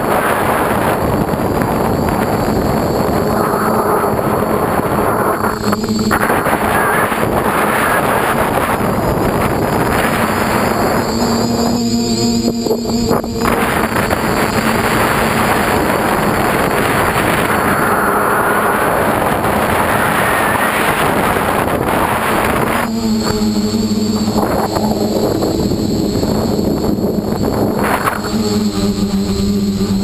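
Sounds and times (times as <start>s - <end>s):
drone propellers whirring: 0.0s - 30.0s
humming motor tone: 0.0s - 30.0s
wind rushing over microphone: 0.0s - 30.0s.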